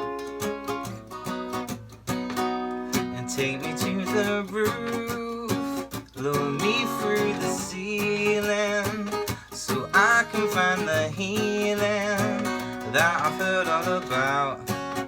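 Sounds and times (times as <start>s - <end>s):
strummed acoustic string instrument: 0.0s - 15.0s.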